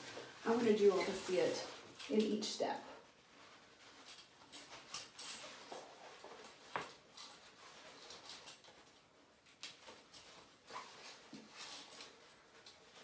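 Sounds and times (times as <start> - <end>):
shower curtain rustling: 0.0 - 13.0.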